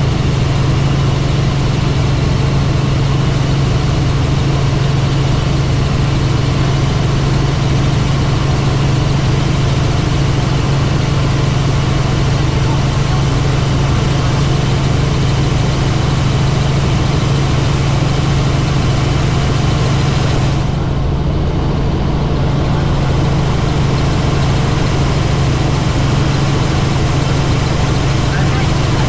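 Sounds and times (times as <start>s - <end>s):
helicopter drone: 0.0s - 29.0s.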